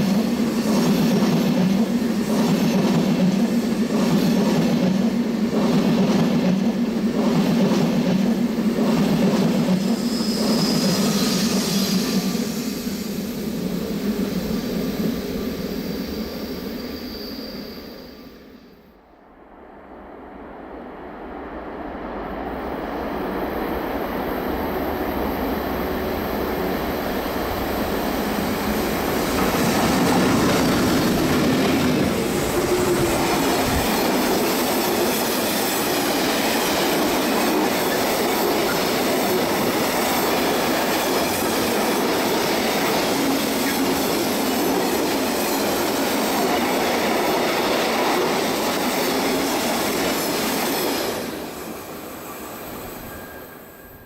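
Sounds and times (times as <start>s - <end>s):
train wheel and rail noise: 0.0s - 54.0s.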